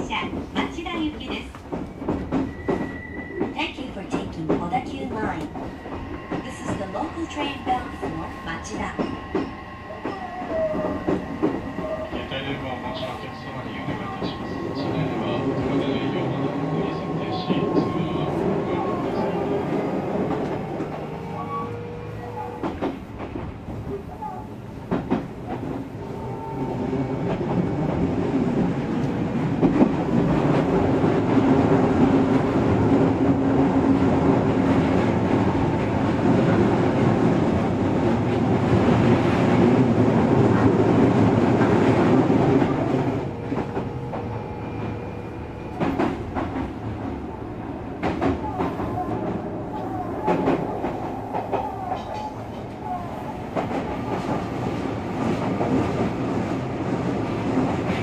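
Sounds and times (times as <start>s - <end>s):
electric train rolling: 0.0s - 58.0s.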